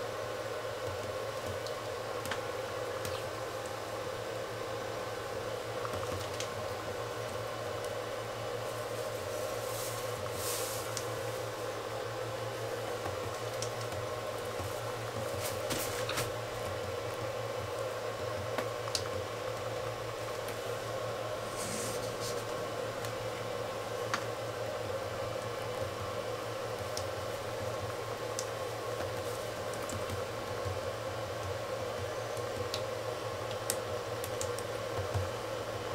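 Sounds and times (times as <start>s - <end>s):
fan-like mechanical hum: 0.0s - 35.9s.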